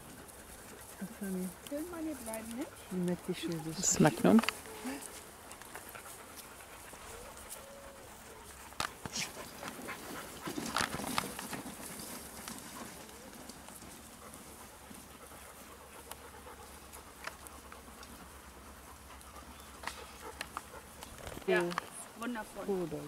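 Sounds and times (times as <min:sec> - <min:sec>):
dogs moving about on grass: 0:00.0 - 0:23.0
dogs panting: 0:00.0 - 0:23.0.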